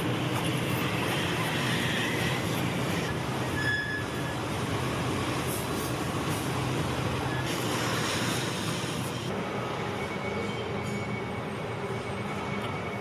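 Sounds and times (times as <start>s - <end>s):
mechanical noise with low hum: 0.0s - 13.0s.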